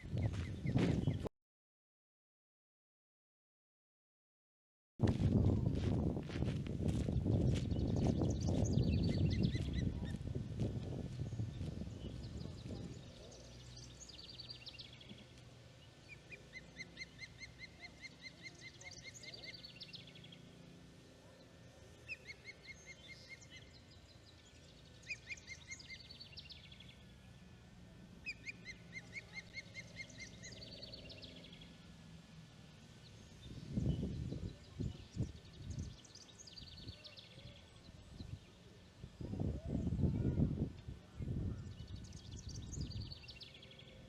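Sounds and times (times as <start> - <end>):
faint low hum: 5.0 - 44.0.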